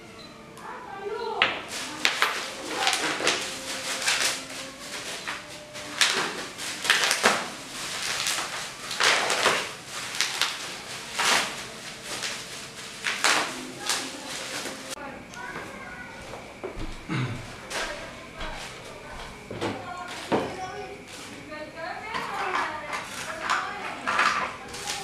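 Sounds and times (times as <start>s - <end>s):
plastic wrapping crinkling: 0.6s - 25.0s.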